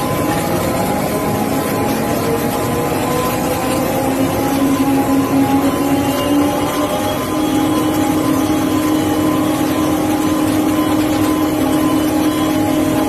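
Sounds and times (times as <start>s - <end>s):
drilling rig machinery drone: 0.0s - 13.0s.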